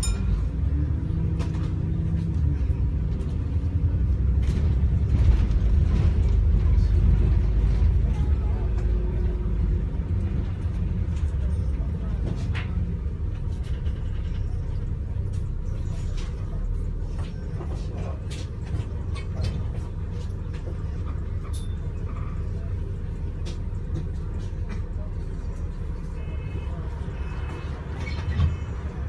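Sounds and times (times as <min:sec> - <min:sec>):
bus engine and road drone: 0:00.0 - 0:29.0.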